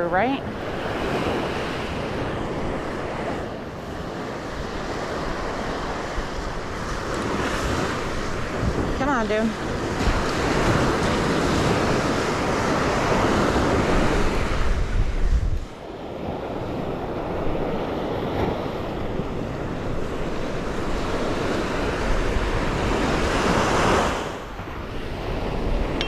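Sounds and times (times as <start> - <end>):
surf washing onto beach: 0.0 - 26.0
wind buffeting microphone: 0.0 - 26.0.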